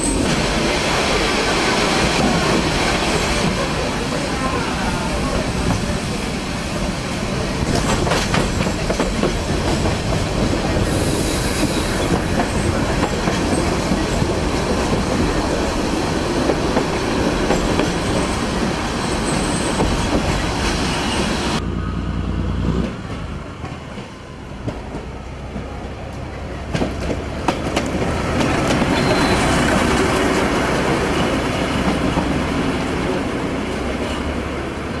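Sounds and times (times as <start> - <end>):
diesel train running: 0.0 - 35.0.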